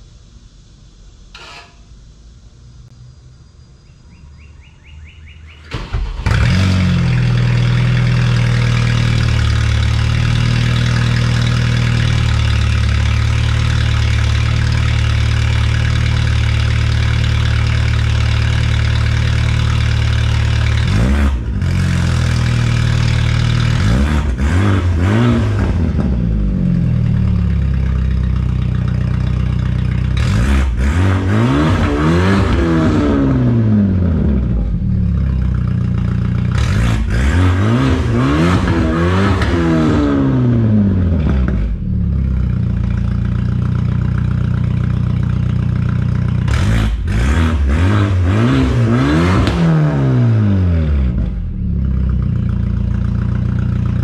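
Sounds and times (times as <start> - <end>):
car engine starting and revving: 5.3 - 54.0.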